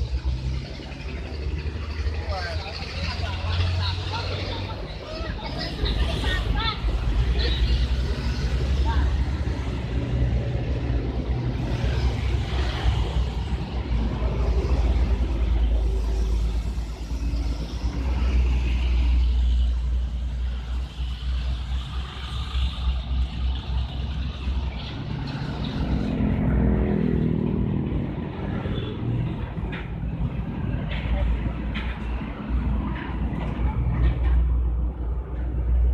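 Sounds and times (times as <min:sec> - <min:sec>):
vehicles passing on street: 0:00.0 - 0:35.9.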